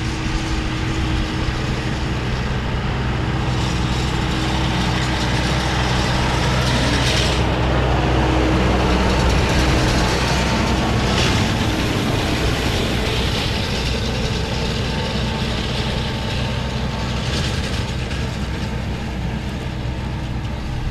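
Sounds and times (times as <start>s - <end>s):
baler machinery clatter: 0.0s - 20.9s
tractor engine running: 0.0s - 20.9s.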